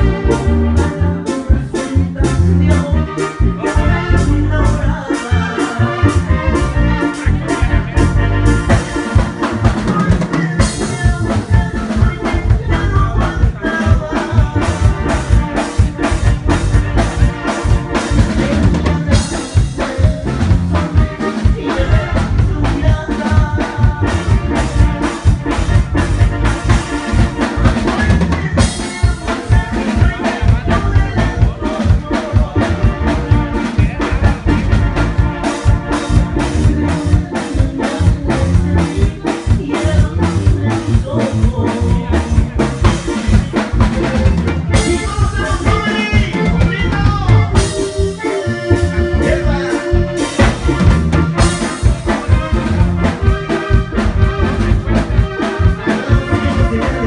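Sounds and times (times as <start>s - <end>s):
band playing latin dance music: 0.0s - 57.0s
drum kit beat: 0.0s - 57.0s
electronic keyboards: 0.0s - 57.0s.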